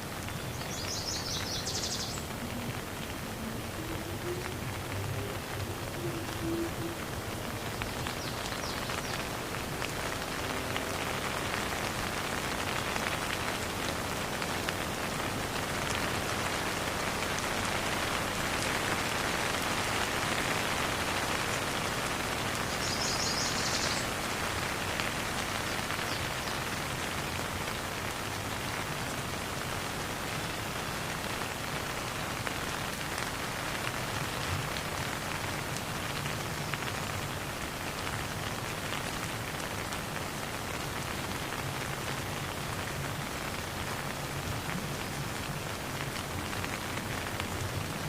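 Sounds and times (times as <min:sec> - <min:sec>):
steady rain falling: 0:00.0 - 0:48.0.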